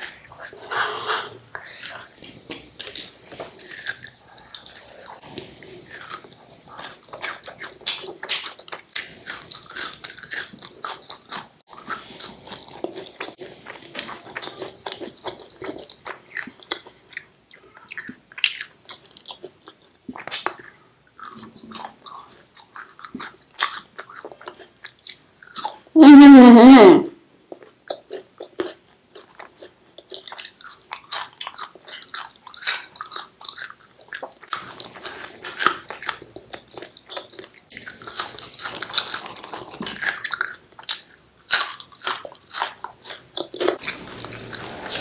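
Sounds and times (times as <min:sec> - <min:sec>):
person chewing sweet: 0:00.0 - 0:26.9, 0:27.5 - 0:45.0.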